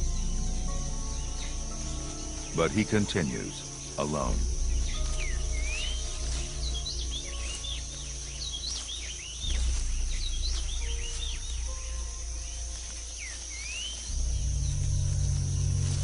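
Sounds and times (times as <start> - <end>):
high insect drone: 0.0 - 16.0
low sustained musical tones: 0.0 - 16.0
swooping bird calls: 0.0 - 16.0.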